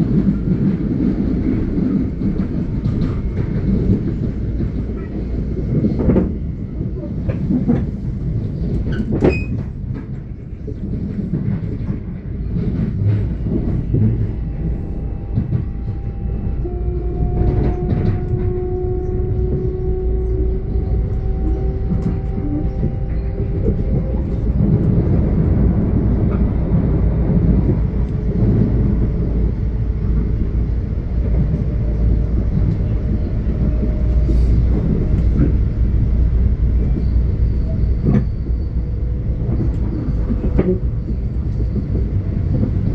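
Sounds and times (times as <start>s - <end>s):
train low rumble: 0.0s - 42.9s.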